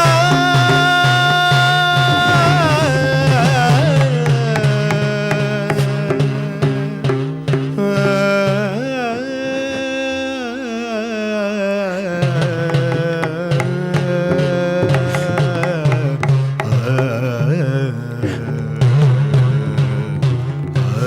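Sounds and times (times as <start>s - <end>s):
hand-drum strokes: 0.0s - 9.2s, 12.2s - 21.0s.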